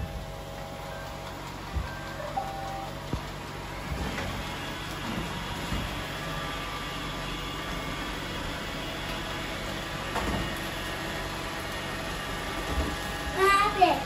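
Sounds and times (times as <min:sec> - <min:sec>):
robot vacuums humming: 0:00.9 - 0:14.0.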